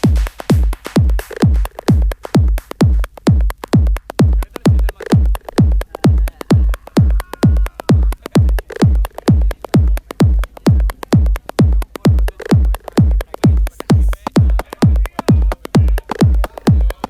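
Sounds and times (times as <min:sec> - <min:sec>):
techno dance music: 0:00.0 - 0:17.0.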